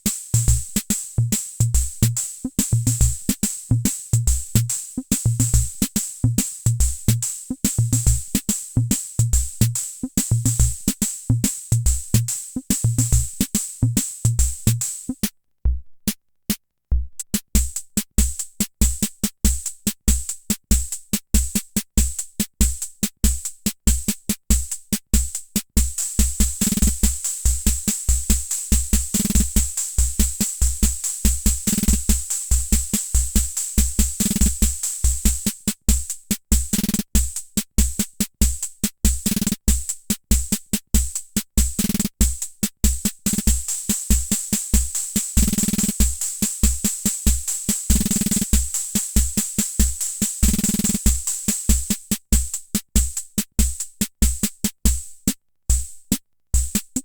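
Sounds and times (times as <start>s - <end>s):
rhythm machine beat: 0.0s - 16.1s, 16.9s - 57.0s.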